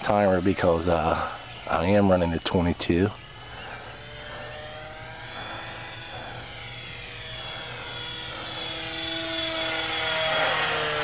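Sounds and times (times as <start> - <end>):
rc plane motor whining: 0.0 - 11.0.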